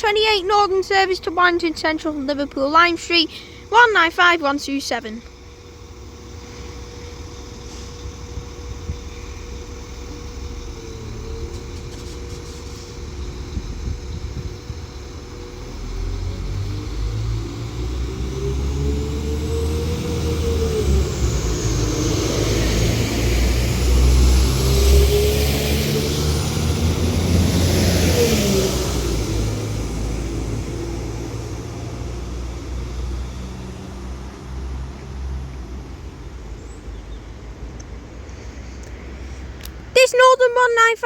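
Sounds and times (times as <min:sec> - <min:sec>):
wheels hissing on rails: 0:00.0 - 0:40.4
train diesel engines: 0:00.0 - 0:41.0.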